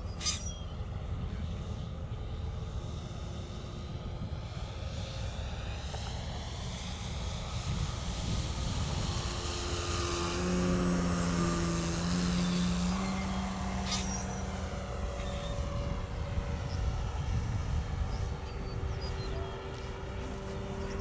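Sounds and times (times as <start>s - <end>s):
model airplane motor whine: 0.0s - 21.0s
wind noise on microphone: 2.5s - 21.0s.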